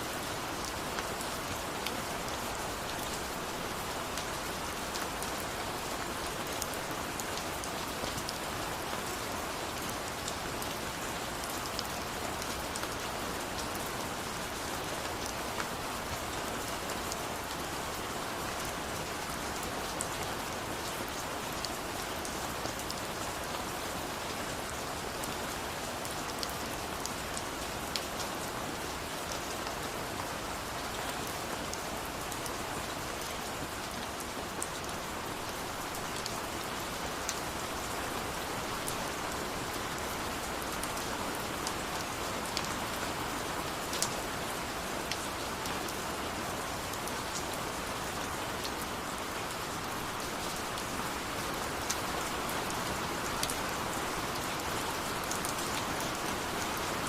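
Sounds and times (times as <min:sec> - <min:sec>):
steady rain with drop patters: 0:00.0 - 0:57.0.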